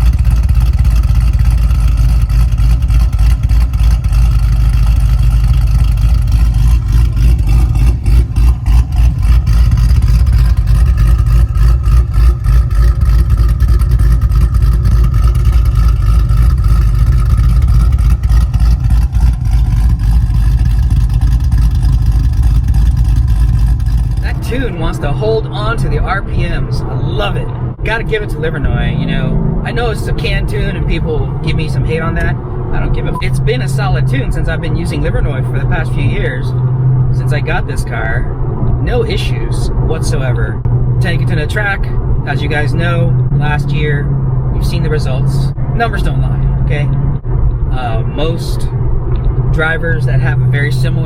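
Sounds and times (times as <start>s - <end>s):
car engine revving with choppy lope: 0.0s - 51.0s.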